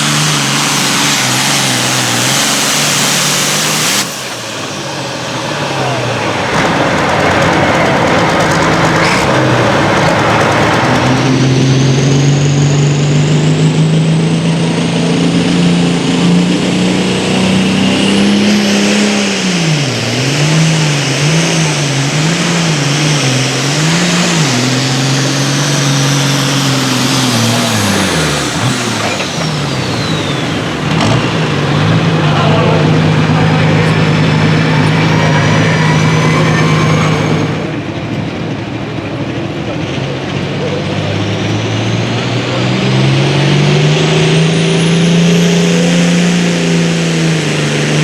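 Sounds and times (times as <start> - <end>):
diesel tractor engine under load: 0.0 - 48.0
high turbo whine: 0.0 - 48.0.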